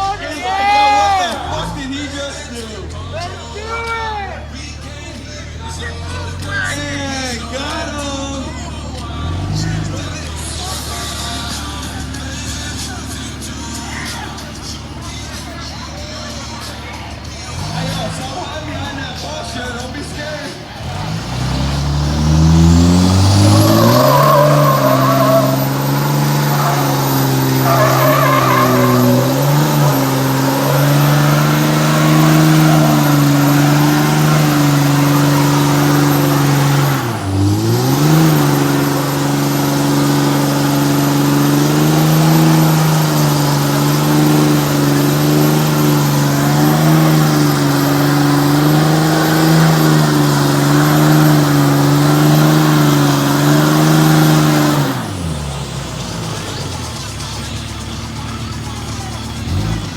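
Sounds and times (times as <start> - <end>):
diesel engine revving: 0.0 - 59.9
spinning tyres hissing: 0.0 - 59.9.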